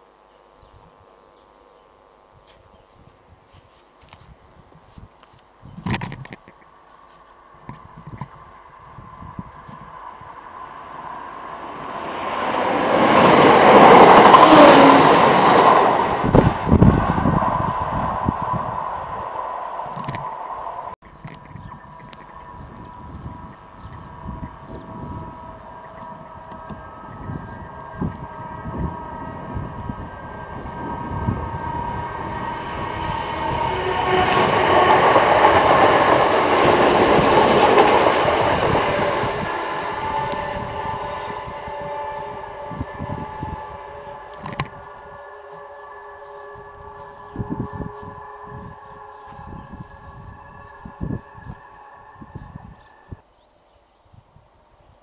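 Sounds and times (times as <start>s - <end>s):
diesel train passing at speed: 6.6s - 53.2s.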